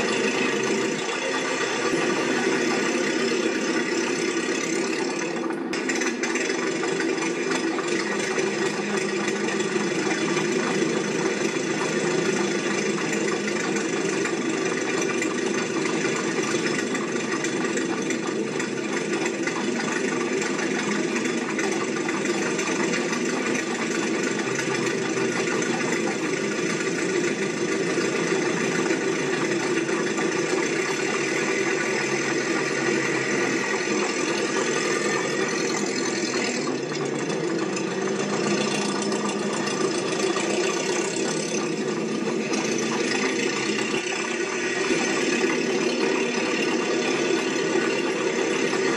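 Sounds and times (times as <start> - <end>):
machinery humming: 0.0 - 48.9.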